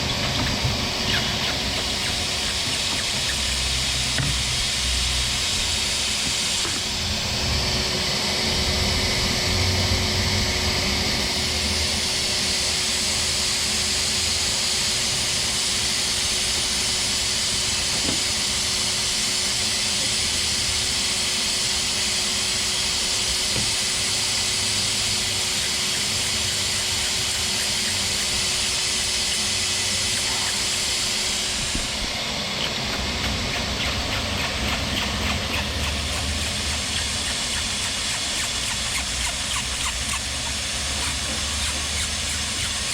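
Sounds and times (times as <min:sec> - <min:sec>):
vacuum motor whine: 0:00.0 - 0:42.9
rush of air from blower: 0:02.0 - 0:42.8.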